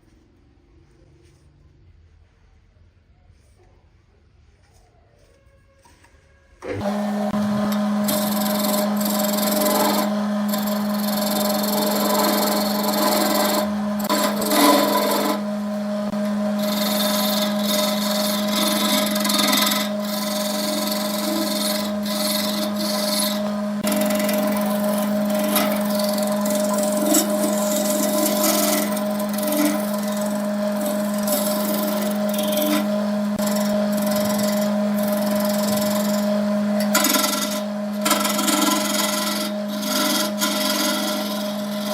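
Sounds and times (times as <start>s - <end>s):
tool scraping spinning wood: 6.6s - 41.9s
wood lathe motor hum: 6.6s - 41.9s.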